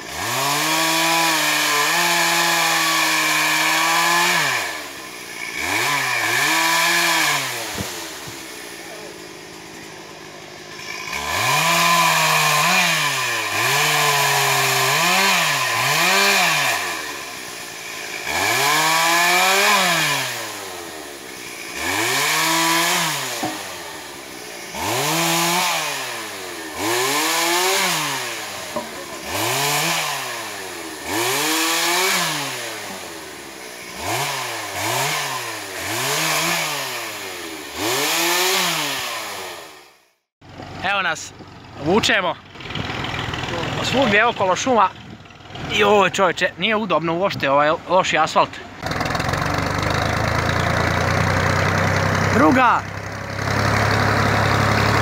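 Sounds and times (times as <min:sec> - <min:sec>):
chainsaw revving: 0:00.0 - 0:41.1, 0:41.7 - 0:55.0.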